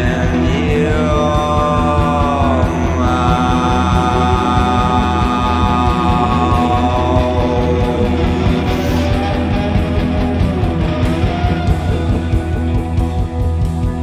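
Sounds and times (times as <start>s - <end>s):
loud guitar rock music: 0.0s - 14.0s.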